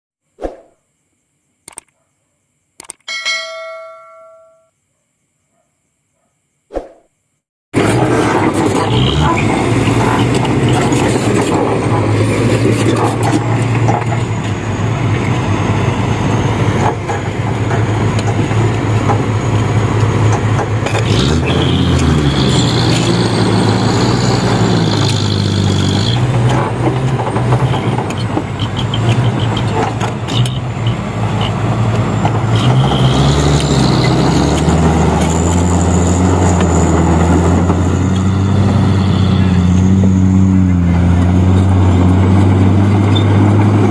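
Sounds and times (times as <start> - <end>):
bulldozer diesel engine: 7.8 - 43.9
dump truck engine under load: 7.8 - 43.9.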